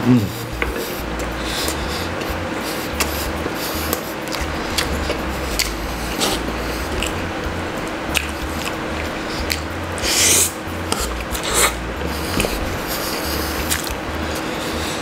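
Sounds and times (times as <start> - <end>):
noodles slurped and chewed: 0.6 - 7.3, 8.1 - 15.0
wet mouth clicks and smacks: 0.6 - 15.0.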